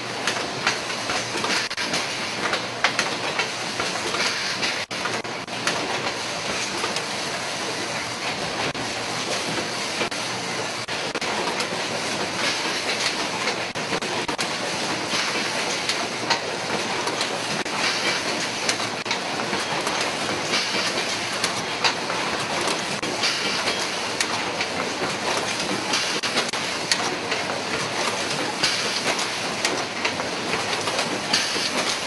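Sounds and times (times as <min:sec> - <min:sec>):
assembly-line machinery clattering: 0:00.0 - 0:32.0.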